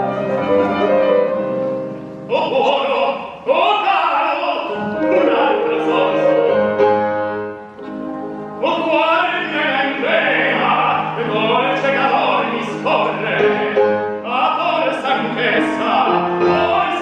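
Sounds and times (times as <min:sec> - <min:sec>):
piano: 0:00.0 - 0:17.0
operatic tenor singing: 0:02.2 - 0:17.0.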